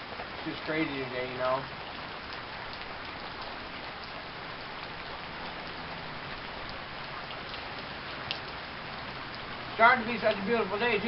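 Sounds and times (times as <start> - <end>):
heavy rain hissing: 0.0 - 11.0
raindrops ticking on surfaces: 0.0 - 11.0.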